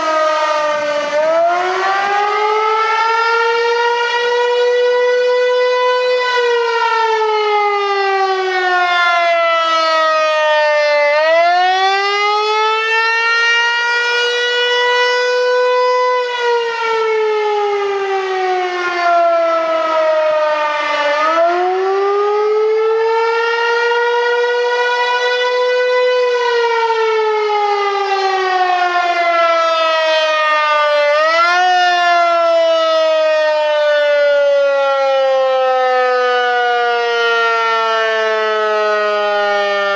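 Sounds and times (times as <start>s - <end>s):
wailing warning siren: 0.0s - 39.9s.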